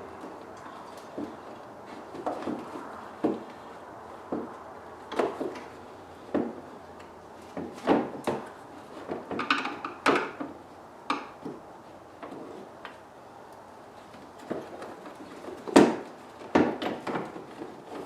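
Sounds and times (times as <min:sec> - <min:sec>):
parts and tools knocking and clattering: 0:00.0 - 0:11.6, 0:14.0 - 0:18.0.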